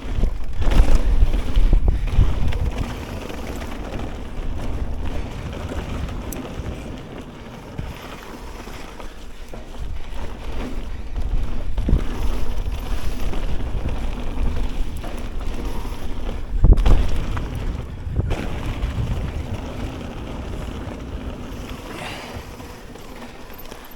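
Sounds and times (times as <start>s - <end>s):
wind buffeting microphone: 0.0s - 23.5s
bike rattling: 0.0s - 23.9s
mountain bike rumbling on trail: 0.0s - 23.9s
tyres rolling: 0.0s - 23.9s.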